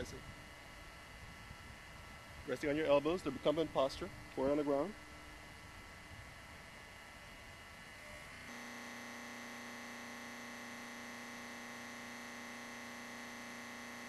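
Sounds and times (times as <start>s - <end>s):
electrical buzz: 0.0s - 14.0s.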